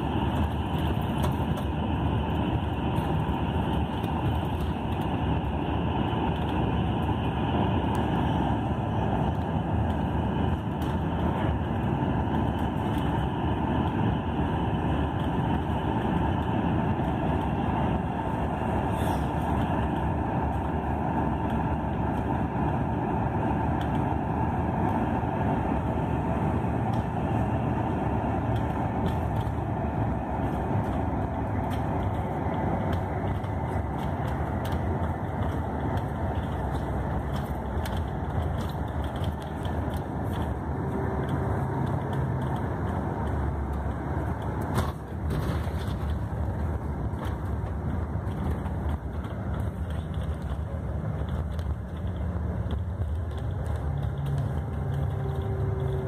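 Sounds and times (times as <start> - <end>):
coach engine and tyres droning: 0.0 - 56.0.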